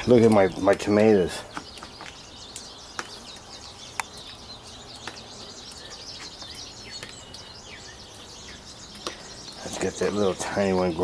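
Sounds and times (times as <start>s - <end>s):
songbirds singing and chirping: 0.0s - 11.0s.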